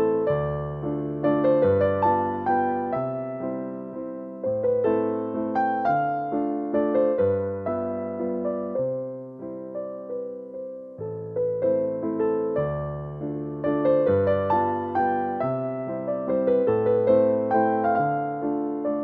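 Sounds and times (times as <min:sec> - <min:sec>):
gentle electric piano melody: 0:00.0 - 0:19.0.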